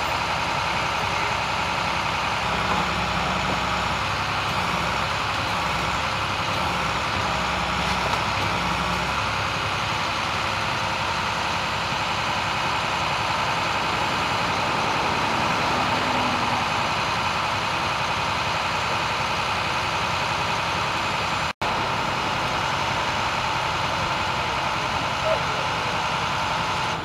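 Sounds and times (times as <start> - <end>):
idling truck engines: 0.0 - 27.0.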